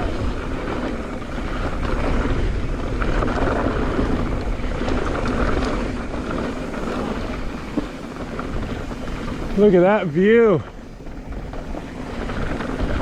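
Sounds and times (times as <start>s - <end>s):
bike tyres rumbling on dirt: 0.0s - 13.0s
light bike rattles: 0.0s - 13.0s
wind rushing over microphone: 0.0s - 13.0s.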